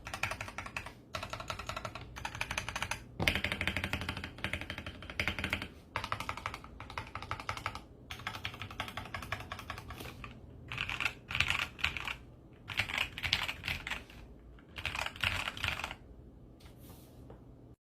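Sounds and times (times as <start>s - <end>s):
mechanical keyboard typing: 0.0s - 16.0s.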